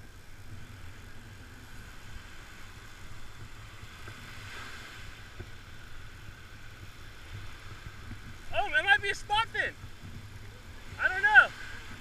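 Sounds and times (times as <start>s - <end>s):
ocean surf washing onto beach: 0.0s - 12.0s
wind rumble on microphone: 0.0s - 12.0s.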